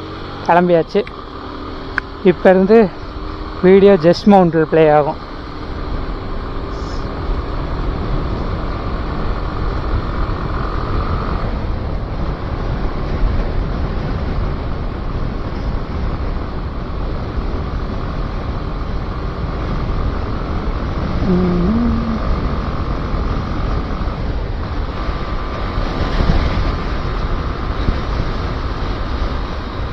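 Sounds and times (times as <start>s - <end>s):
motorcycle engine: 0.0s - 29.9s.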